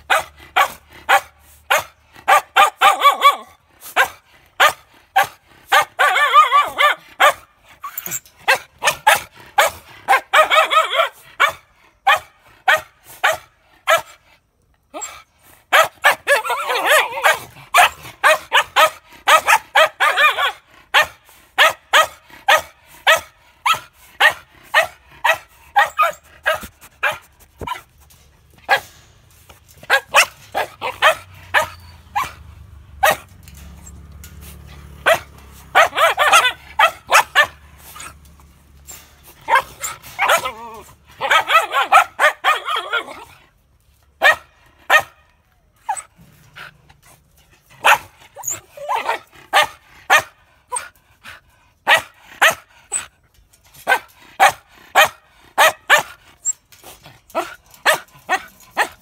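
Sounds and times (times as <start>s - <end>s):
dogs barking: 0.0s - 7.5s, 8.4s - 14.2s, 15.7s - 27.8s, 28.6s - 28.9s, 29.8s - 38.2s, 39.4s - 43.4s, 44.2s - 45.2s, 47.6s - 53.1s, 53.7s - 56.2s, 57.2s - 59.0s.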